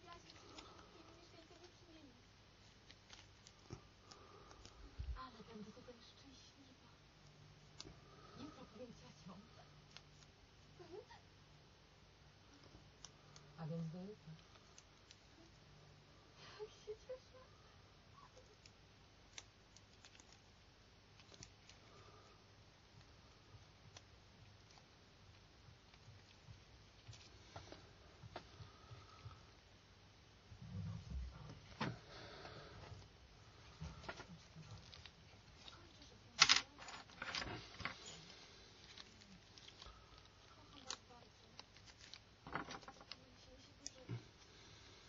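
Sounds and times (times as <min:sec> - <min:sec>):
faint room noise: 0:00.0 - 0:45.0.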